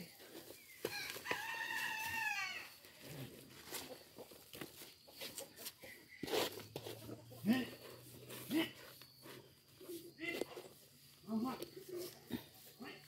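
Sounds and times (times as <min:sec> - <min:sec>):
rustling of soil and plant stalks: 0:00.0 - 0:13.0.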